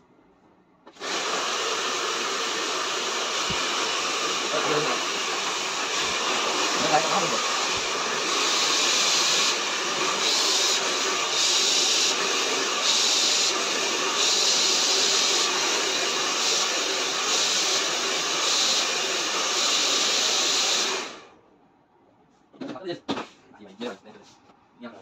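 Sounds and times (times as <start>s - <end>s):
hair dryer blowing: 0.9s - 21.3s.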